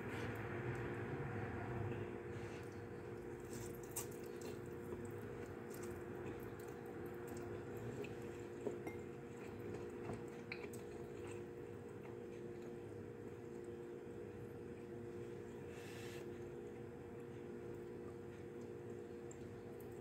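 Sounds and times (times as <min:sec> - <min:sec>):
steady low hum: 0:00.0 - 0:20.0
chewing and wet mouth sounds: 0:02.3 - 0:20.0.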